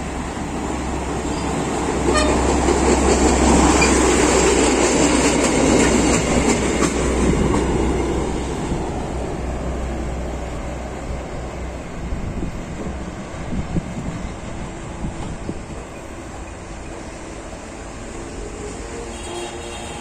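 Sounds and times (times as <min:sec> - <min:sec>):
rail vehicle wheels on rails: 0:00.0 - 0:20.0.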